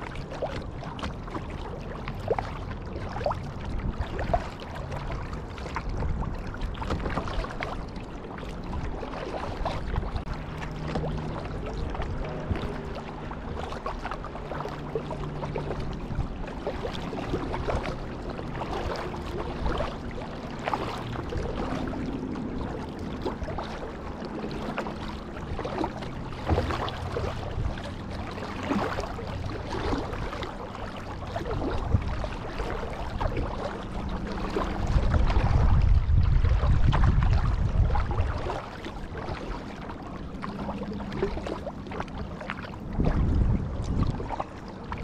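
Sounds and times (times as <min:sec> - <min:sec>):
paddle splashes and drips: 0:00.0 - 0:45.0
water lapping around kayak: 0:00.0 - 0:45.0.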